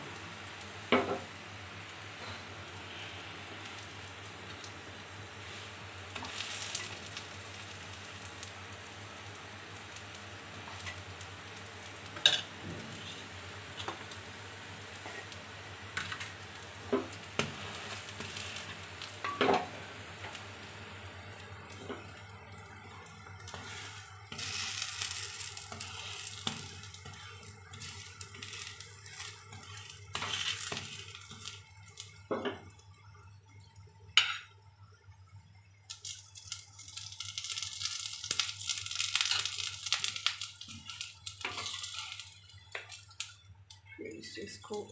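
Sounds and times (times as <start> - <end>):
food sizzling on a griddle: 0.0 - 44.9.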